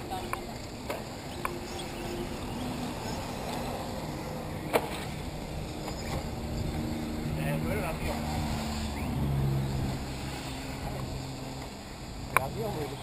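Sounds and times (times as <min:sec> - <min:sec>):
faint shifting tones: 0:00.0 - 0:13.0.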